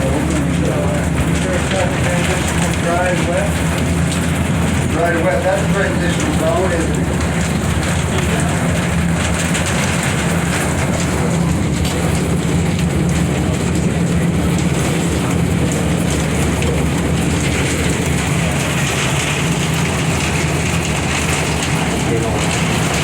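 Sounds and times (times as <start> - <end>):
cable car hum: 0.0 - 23.0
heavy rain on roof and windows: 0.0 - 23.0.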